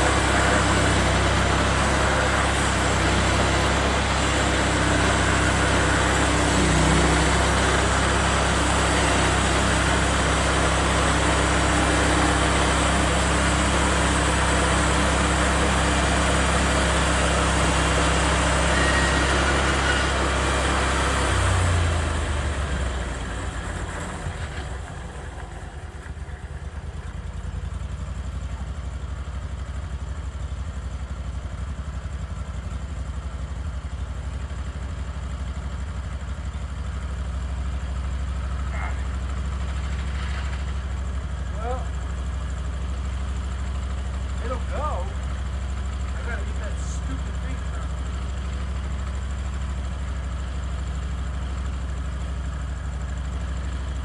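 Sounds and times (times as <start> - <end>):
loud broad sawmill noise: 0.0 - 28.6, 35.5 - 54.0
petrol engine running: 0.0 - 54.0.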